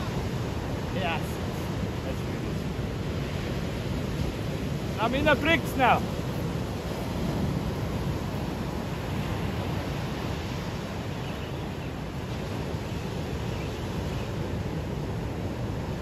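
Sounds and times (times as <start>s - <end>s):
surf breaking on beach: 0.0s - 16.0s
wind on microphone: 0.0s - 16.0s.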